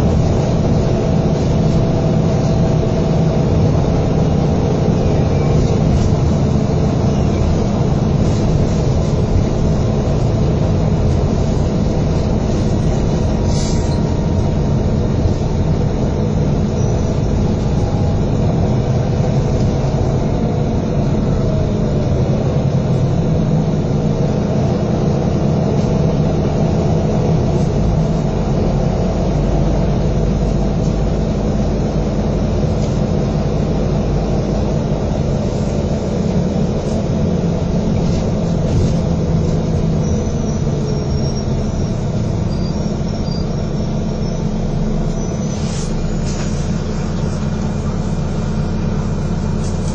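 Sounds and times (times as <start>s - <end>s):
bus engine and road noise: 0.0s - 49.9s.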